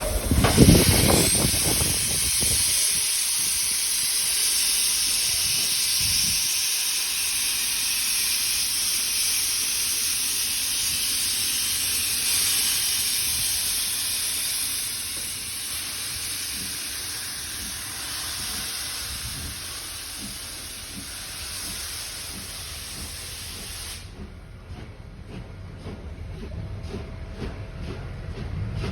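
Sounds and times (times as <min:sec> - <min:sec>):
steam locomotive hissing: 0:00.0 - 0:28.9.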